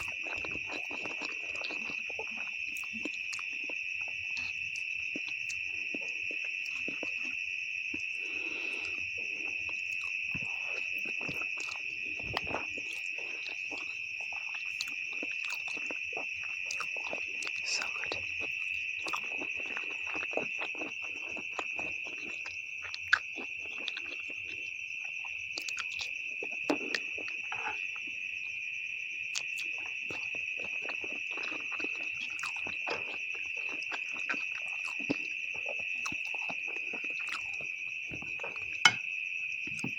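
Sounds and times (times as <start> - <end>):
chewing and slurping noodles: 0.0 - 28.2, 29.2 - 39.9
insects chirring: 0.0 - 39.9.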